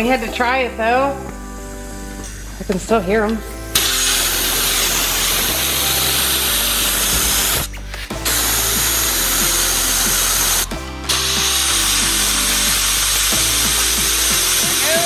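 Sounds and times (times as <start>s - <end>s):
compressed air hissing: 0.0s - 15.0s.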